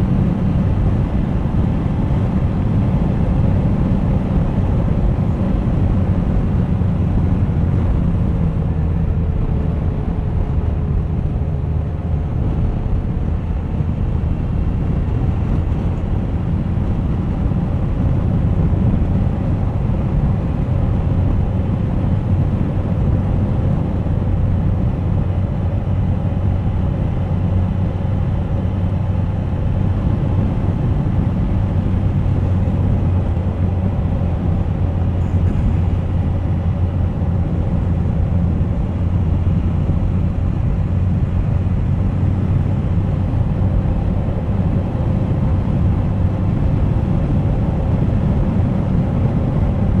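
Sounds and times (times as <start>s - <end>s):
motorcycle engine drone: 0.0s - 50.0s
wind and road noise: 0.0s - 50.0s.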